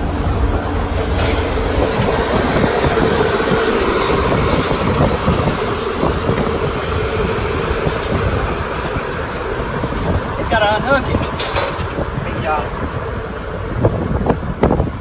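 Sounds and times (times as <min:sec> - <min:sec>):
steady hum: 0:00.0 - 0:15.0
vehicle rumble and road noise: 0:00.0 - 0:15.0.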